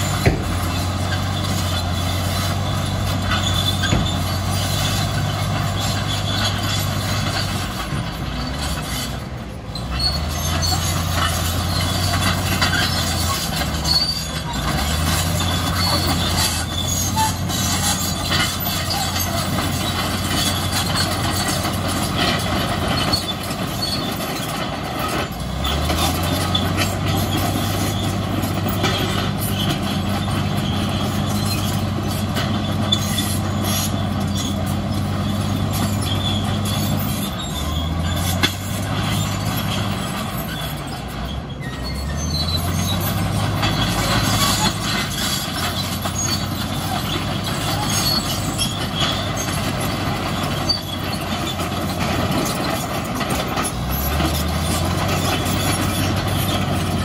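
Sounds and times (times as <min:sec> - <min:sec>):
bulldozer diesel engine under load: 0:00.0 - 0:57.0
steel tracks clanking and squealing: 0:00.0 - 0:57.0.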